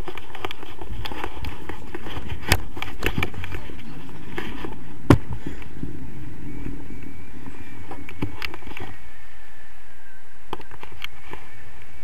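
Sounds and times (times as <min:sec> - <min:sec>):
wind on microphone: 0:00.0 - 0:12.0
heavy low rumble: 0:00.7 - 0:12.0.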